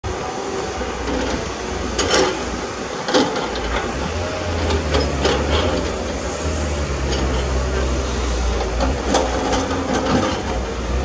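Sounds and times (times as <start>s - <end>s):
heavy equipment engine running: 0.0s - 11.0s.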